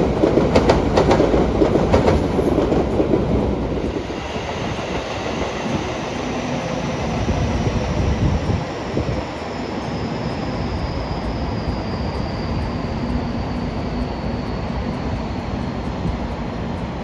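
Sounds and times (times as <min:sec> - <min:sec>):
high whine falling in pitch: 0:00.0 - 0:17.0
train rumbling past: 0:00.0 - 0:17.0.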